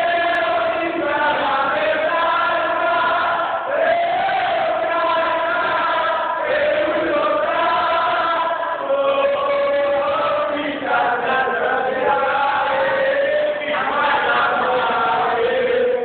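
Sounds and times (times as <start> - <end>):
group singing in unison: 0.0 - 16.0.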